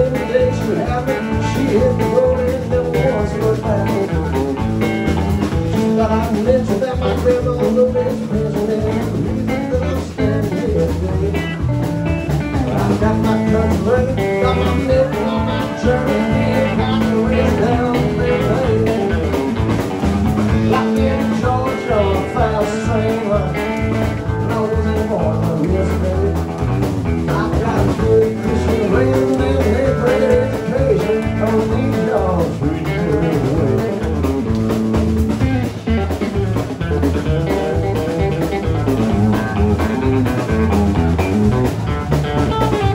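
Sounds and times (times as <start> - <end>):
drum kit: 0.0 - 42.9
electric bass: 0.0 - 42.9
electric guitar: 0.0 - 42.9.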